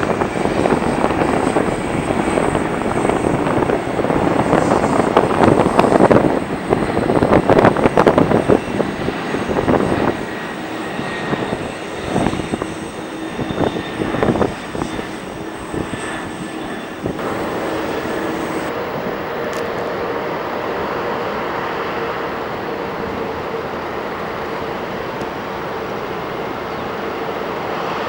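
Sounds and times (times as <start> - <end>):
airliner engine rushing: 0.0 - 28.0.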